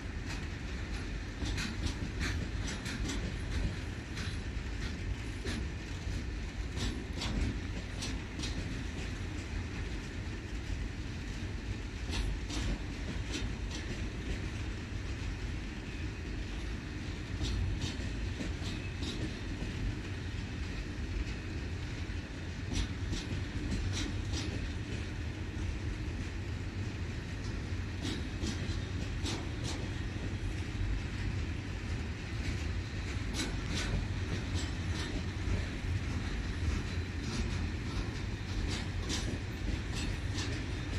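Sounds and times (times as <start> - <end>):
freight train rumbling: 0.0 - 40.9
wheels clacking on track: 0.0 - 40.9.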